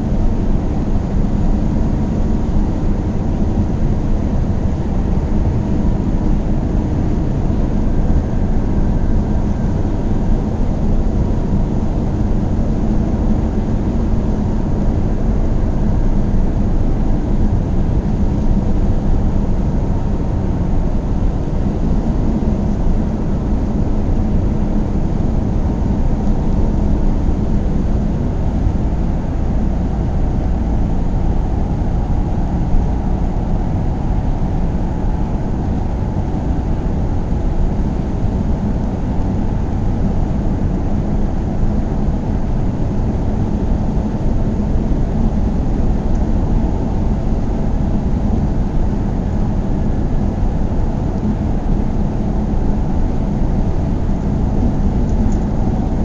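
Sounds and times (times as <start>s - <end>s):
faint hum: 0.0s - 56.0s.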